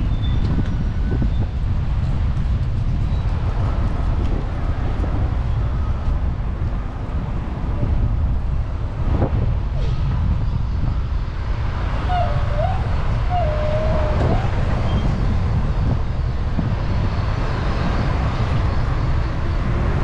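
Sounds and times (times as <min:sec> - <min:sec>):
road traffic noise: 0:00.0 - 0:20.0
wind rumble on microphone: 0:00.0 - 0:20.0.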